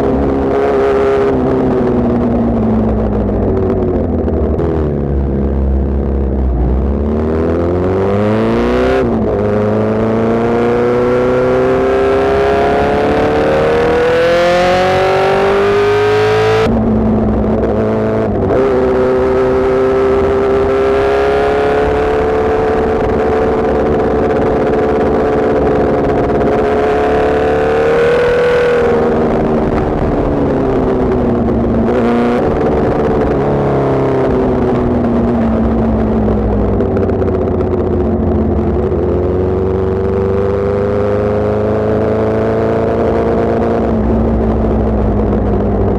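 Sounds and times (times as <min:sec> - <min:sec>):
motorcycle engine revving: 0:00.0 - 0:45.9
wind rushing over microphone: 0:00.0 - 0:45.9.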